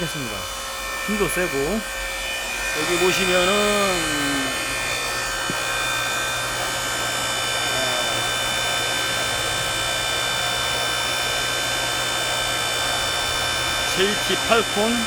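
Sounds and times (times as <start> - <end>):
log splitter motor humming: 0.0 - 15.0.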